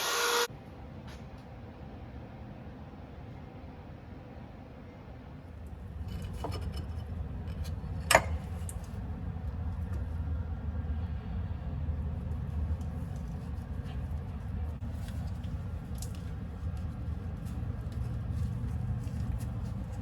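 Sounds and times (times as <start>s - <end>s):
low steady rumble: 1.7s - 20.0s.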